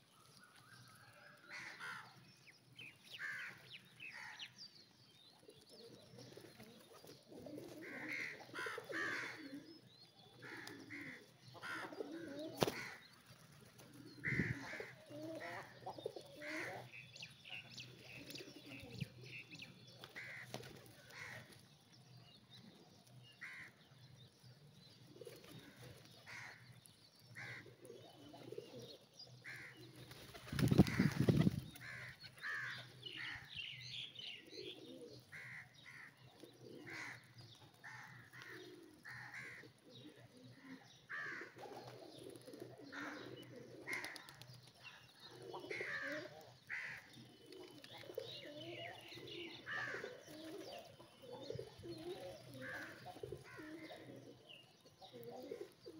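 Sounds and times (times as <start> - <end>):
pigeons cooing: 5.3 - 21.6, 25.0 - 26.7, 27.3 - 55.9.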